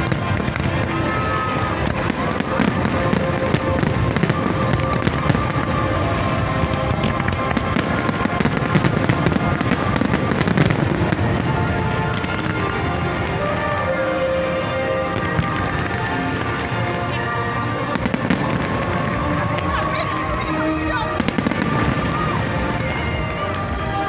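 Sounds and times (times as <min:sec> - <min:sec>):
fireworks bangs and crackles: 0:00.0 - 0:24.0
music playing: 0:00.0 - 0:24.0.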